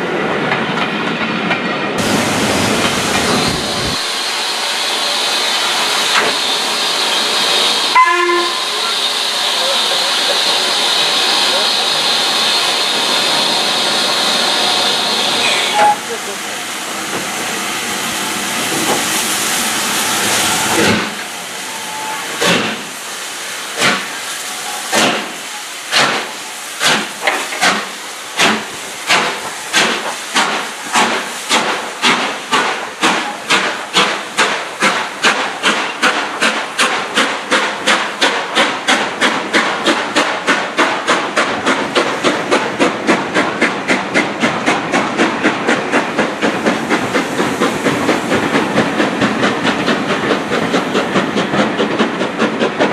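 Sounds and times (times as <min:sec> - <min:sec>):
loud hiss of steam: 0:02.0 - 0:52.8
steam locomotive exhaust beats: 0:02.0 - 0:52.9.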